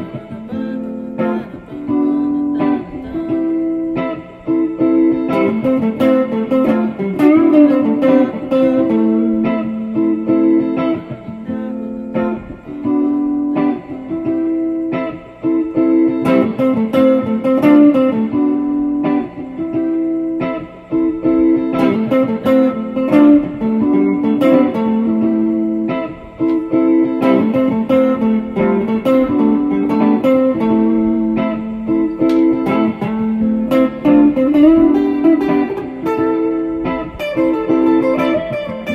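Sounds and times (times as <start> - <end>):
guitar plucked notes: 0.0 - 38.9.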